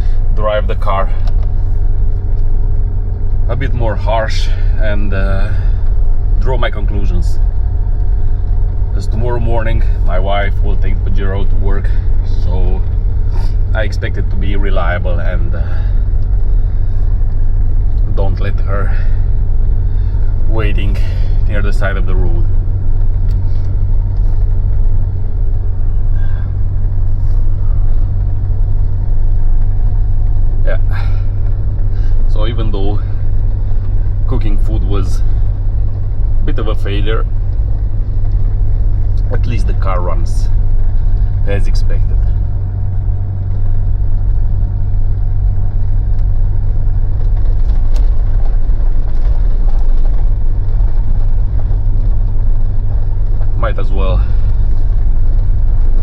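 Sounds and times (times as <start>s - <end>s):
diesel engine droning: 0.0s - 56.0s
road noise: 0.0s - 56.0s.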